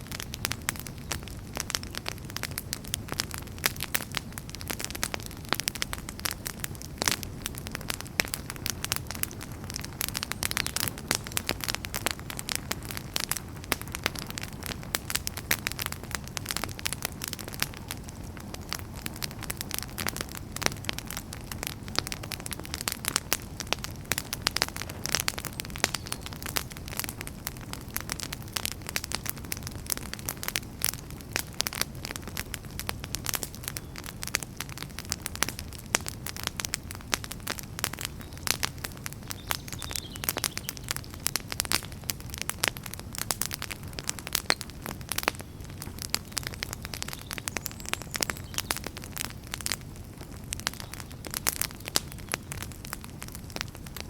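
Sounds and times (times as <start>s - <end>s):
campfire pops and snaps: 0.0s - 54.0s
low rumble of flames: 0.0s - 54.0s.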